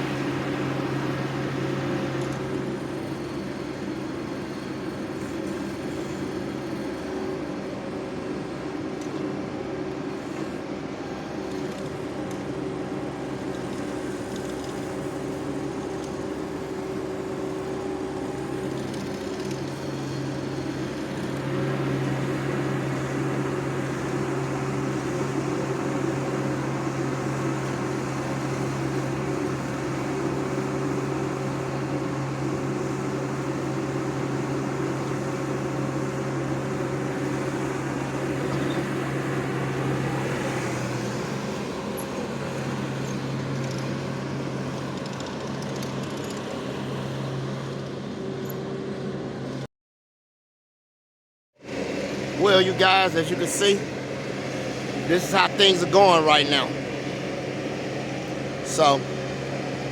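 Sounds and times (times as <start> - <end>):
engine running: 0.0 - 49.7, 51.6 - 59.9.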